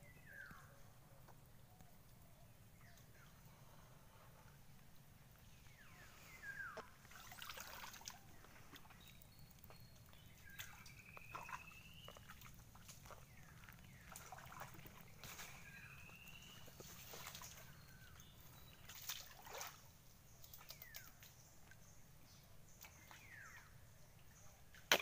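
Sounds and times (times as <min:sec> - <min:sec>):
creek water trickling: 0:00.0 - 0:25.0.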